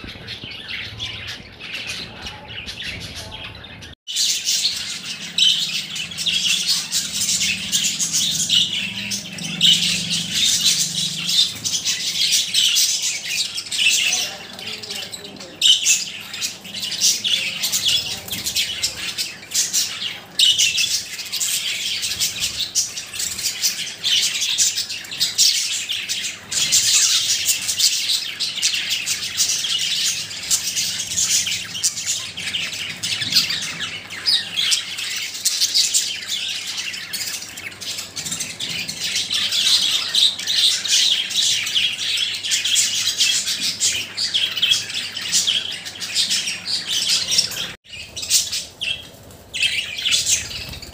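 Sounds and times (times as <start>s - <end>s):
budgies chirping and singing: 0.0s - 50.9s.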